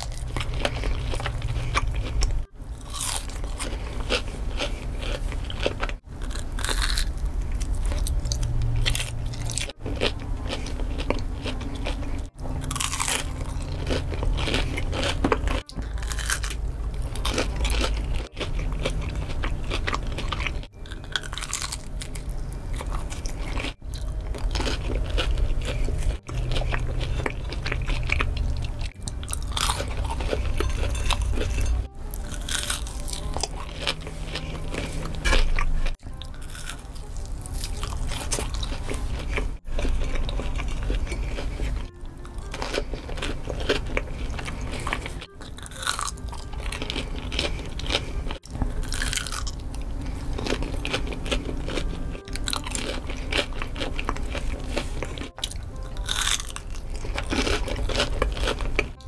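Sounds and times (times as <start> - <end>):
bites into crunchy food: 0.0 - 59.0
loud chewing: 0.0 - 59.0.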